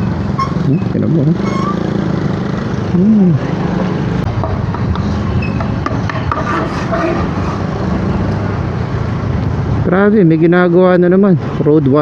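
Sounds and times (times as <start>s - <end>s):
road and traffic noise: 0.0s - 12.0s.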